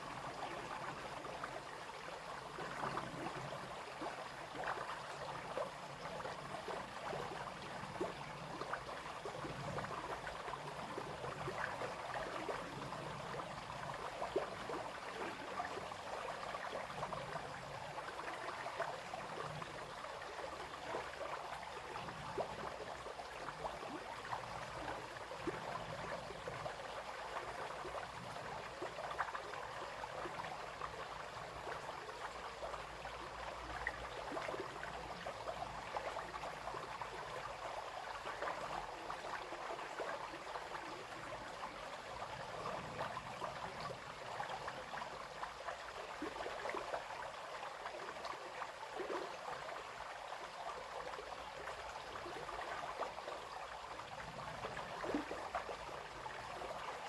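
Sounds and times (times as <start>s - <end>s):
brook flowing and babbling: 0.0s - 57.0s.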